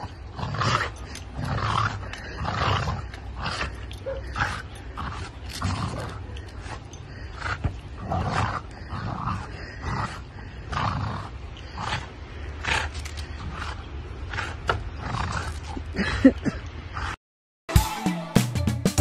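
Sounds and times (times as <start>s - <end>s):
dog growling and grunting: 0.0s - 17.2s.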